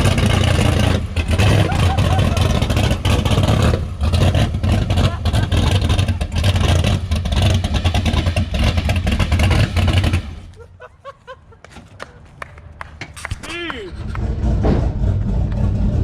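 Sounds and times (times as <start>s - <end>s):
rough rumbling car engine: 0.0s - 16.0s.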